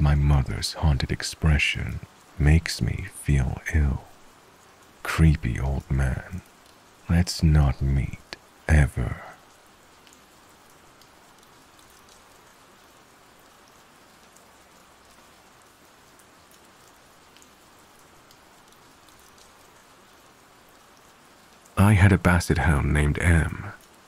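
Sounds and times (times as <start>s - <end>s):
soft steady rain: 0.0s - 24.0s.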